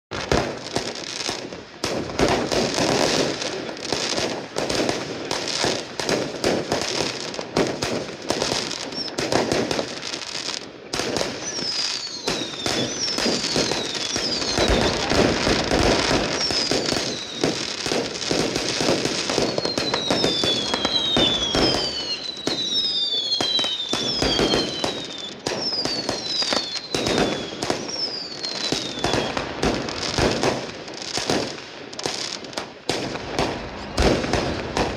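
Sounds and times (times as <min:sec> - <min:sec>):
firework crackling: 0:00.1 - 0:34.9
firework shells bursting with bangs: 0:00.1 - 0:34.9
falling firework whistles: 0:00.2 - 0:34.9.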